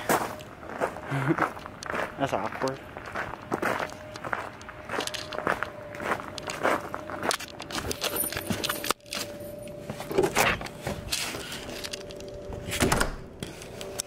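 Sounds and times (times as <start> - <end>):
footsteps: 0.0 - 12.7.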